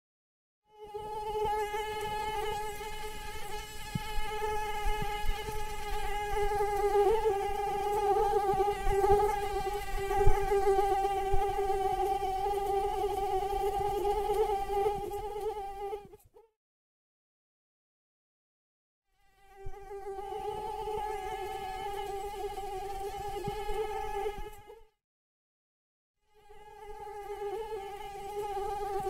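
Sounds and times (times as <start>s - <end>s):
mosquito wingbeat whine: 0.7s - 16.2s, 19.3s - 24.8s, 26.3s - 29.0s.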